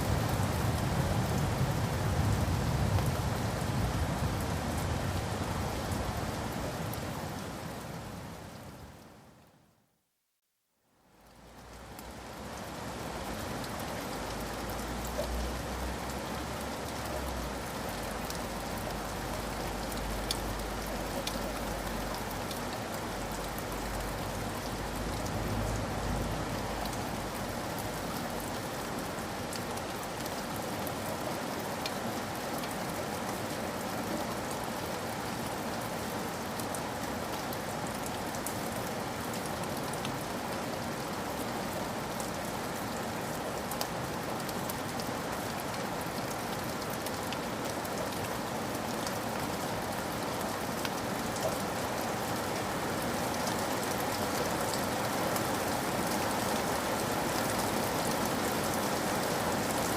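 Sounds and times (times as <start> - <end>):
rain falling: 0.0 - 9.8, 10.9 - 59.9.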